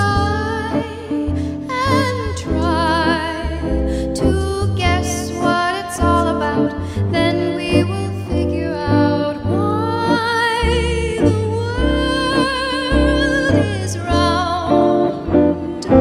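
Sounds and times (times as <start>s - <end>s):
soft instrumental accompaniment: 0.0s - 16.0s
woman singing a slow ballad: 0.0s - 16.0s.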